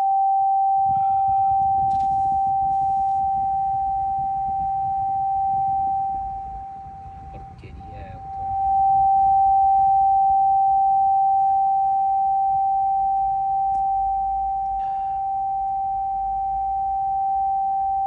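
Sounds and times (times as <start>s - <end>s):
continuous electronic tone: 0.0s - 18.0s.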